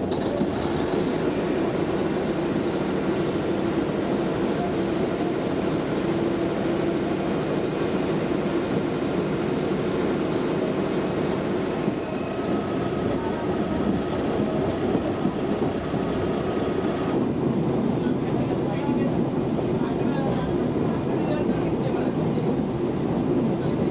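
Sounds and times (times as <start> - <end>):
railbus engine and wheels rumbling: 0.0 - 23.9.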